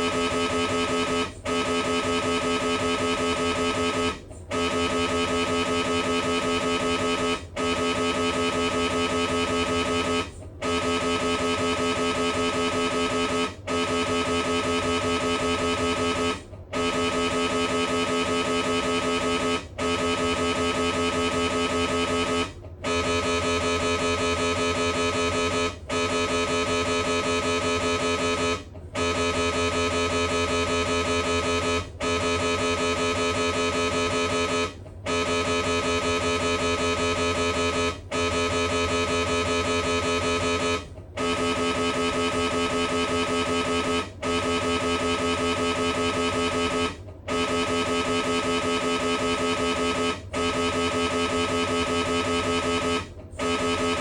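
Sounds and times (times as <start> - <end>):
mri scanner buzzing drone: 0.0 - 54.0.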